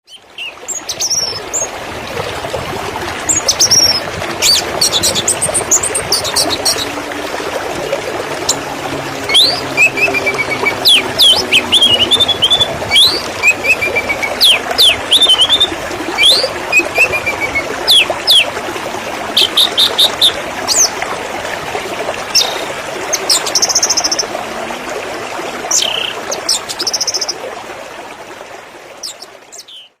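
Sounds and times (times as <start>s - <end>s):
running water rushing: 0.1s - 30.0s.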